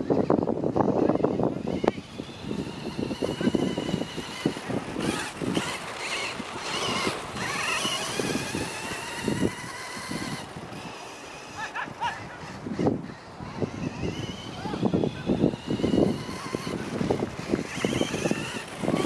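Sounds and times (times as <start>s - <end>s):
rc car motor and gears whining: 0.0s - 19.0s.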